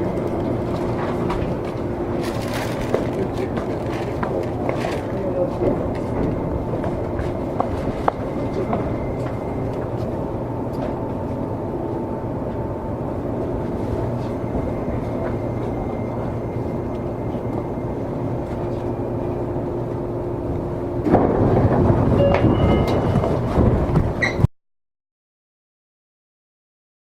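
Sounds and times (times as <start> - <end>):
electric train rumble: 0.0 - 24.4
loud rough train noise: 0.0 - 24.4.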